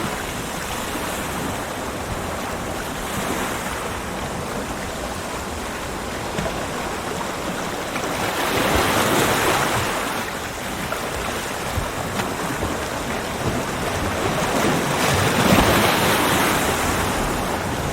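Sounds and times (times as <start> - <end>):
ocean waves breaking on beach: 0.0 - 17.9.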